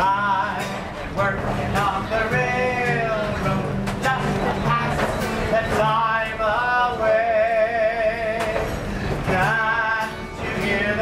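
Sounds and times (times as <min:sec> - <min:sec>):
acoustic guitar strumming: 0:00.0 - 0:11.0
man singing: 0:00.0 - 0:11.0.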